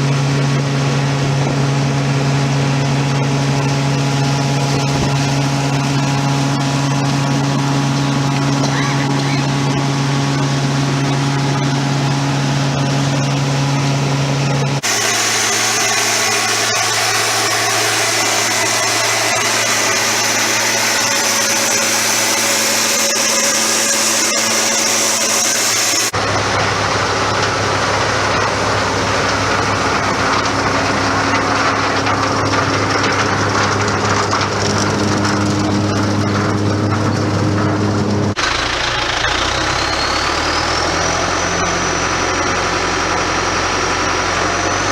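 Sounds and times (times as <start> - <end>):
machinery engines humming: 0.0 - 44.9.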